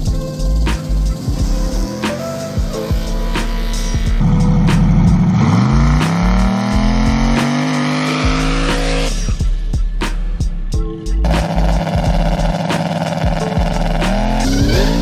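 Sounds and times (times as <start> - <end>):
engine revving: 0.0 - 10.5, 11.2 - 15.0.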